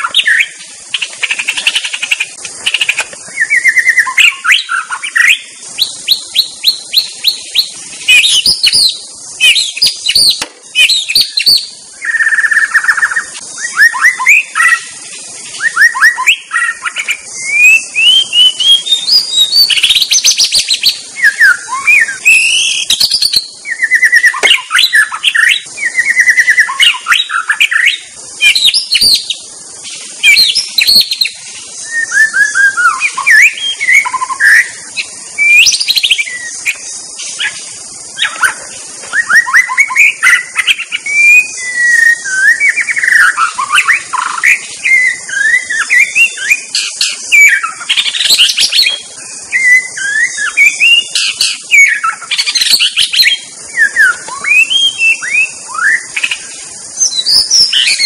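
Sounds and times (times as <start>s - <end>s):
bird singing varied phrases: 0.0s - 58.0s.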